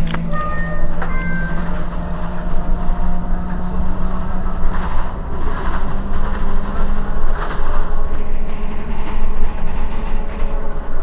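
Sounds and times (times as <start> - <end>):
constant low rumble: 0.0 - 11.0.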